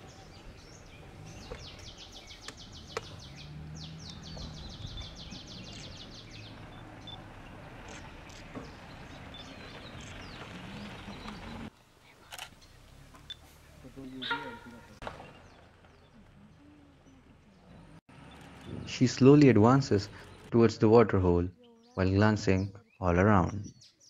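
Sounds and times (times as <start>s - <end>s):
songbird calling: 0.0s - 19.4s
faint low forest hum: 0.0s - 24.0s.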